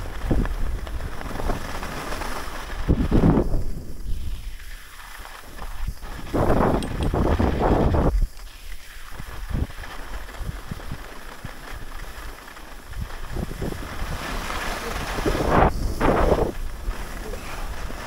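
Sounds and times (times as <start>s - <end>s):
skis scraping over snow: 0.0s - 18.0s
wind rushing over microphone: 0.0s - 18.0s.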